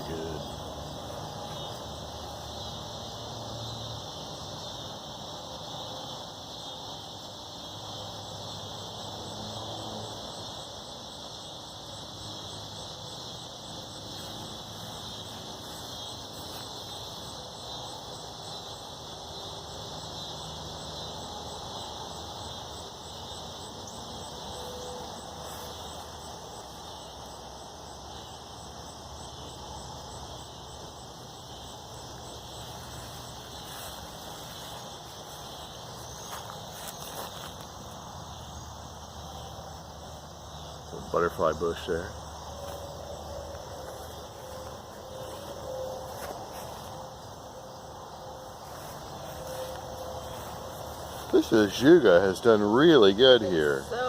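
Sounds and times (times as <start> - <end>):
cicadas buzzing drone: 0.0 - 54.0.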